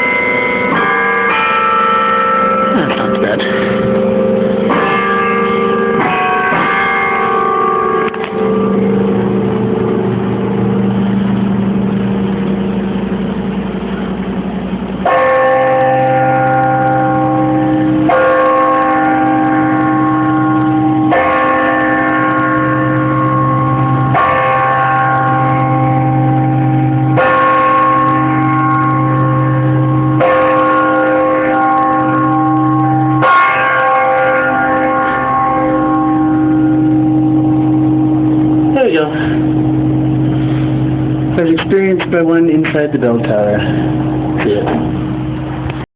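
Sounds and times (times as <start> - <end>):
carillon bells chiming: 0.0 - 13.2, 15.0 - 45.3
hour bell tolling: 0.0 - 45.9.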